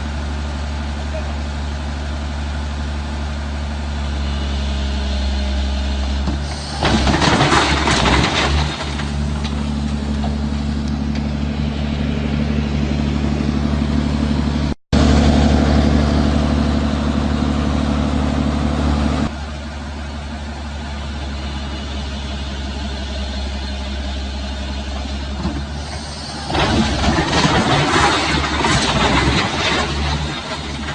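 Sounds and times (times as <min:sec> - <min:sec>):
heavy machine engine running: 0:00.0 - 0:30.9.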